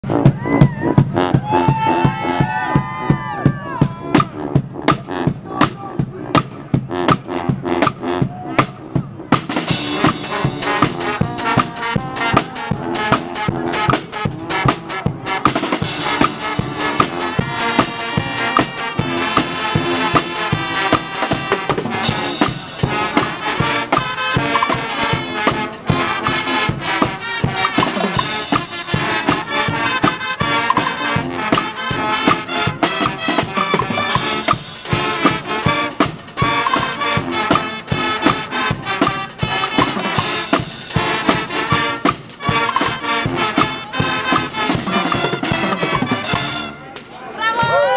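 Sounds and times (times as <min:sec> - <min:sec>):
drumbeat with cymbals: 0:00.0 - 0:46.7
brass section playing: 0:00.0 - 0:47.0.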